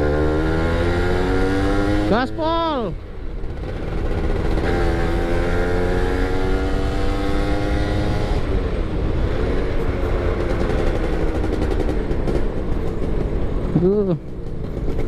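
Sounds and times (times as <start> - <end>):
two-stroke motorcycle engine: 0.0 - 15.0.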